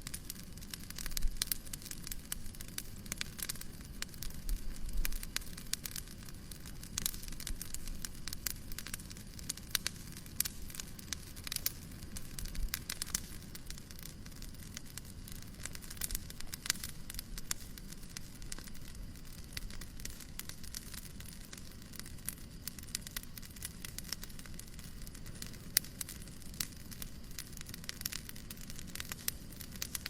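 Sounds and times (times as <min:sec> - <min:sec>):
fireplace crackling: 0:00.0 - 0:30.0.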